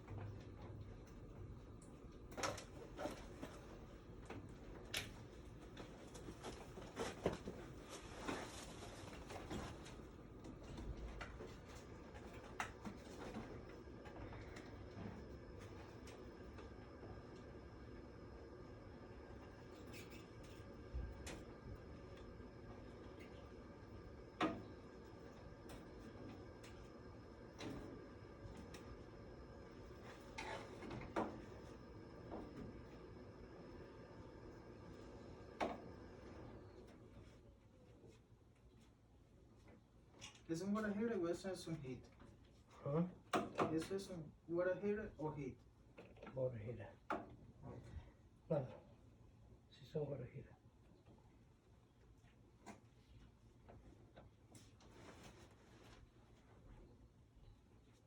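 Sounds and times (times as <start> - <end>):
low steady background hum: 0.0 - 58.0.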